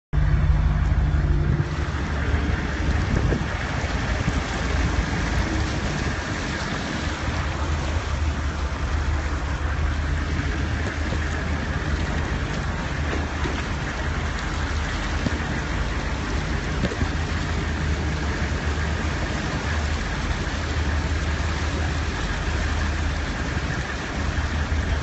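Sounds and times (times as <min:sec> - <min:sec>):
vehicle engine rumble: 0:00.1 - 0:25.0
water washing: 0:00.2 - 0:25.0.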